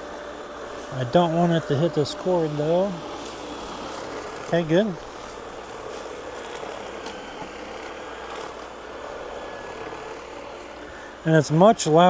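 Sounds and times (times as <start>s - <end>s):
light ticks of leaves: 0.0s - 12.0s
robot lawnmower whirring: 0.0s - 12.0s.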